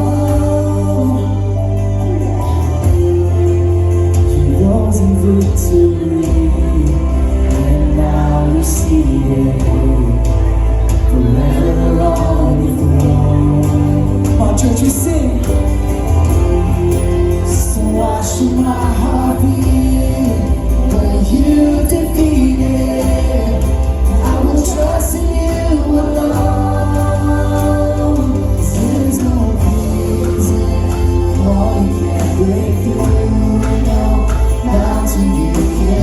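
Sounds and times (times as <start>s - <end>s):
deep bass: 0.0s - 36.0s
voices singing: 0.0s - 36.0s.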